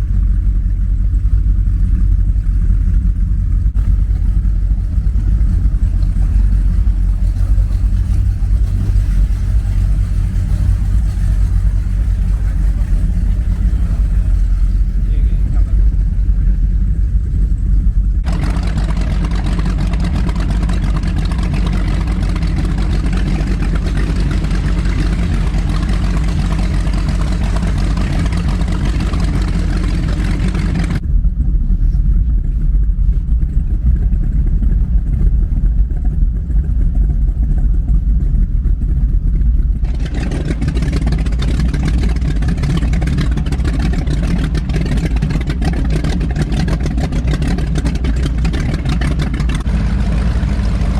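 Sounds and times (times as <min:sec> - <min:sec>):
boat engines droning: 0:00.0 - 0:50.9.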